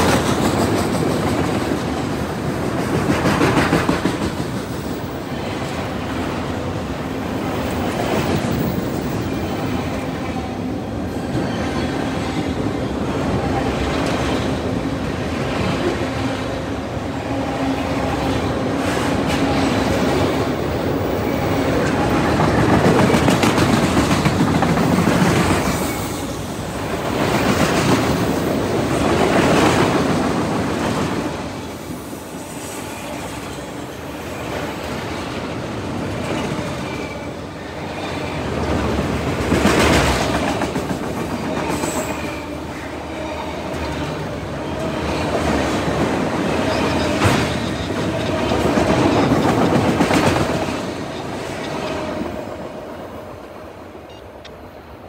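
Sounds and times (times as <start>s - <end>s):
clickety-clack over rail joints: 0.0s - 16.7s, 17.4s - 31.7s, 34.4s - 37.3s, 37.9s - 54.6s
train wheels rumbling on rail: 0.0s - 55.0s.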